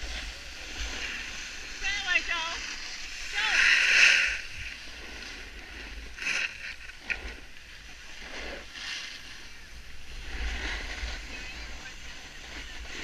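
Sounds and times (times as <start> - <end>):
edges scraping over packed snow: 0.0 - 13.0
wind rumbling on microphone: 0.0 - 13.0.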